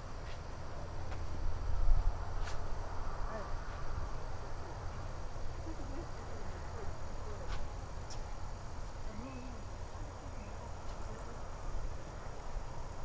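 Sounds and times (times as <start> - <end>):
low steady rumble: 0.0 - 13.0
faint distant voices: 0.3 - 13.0.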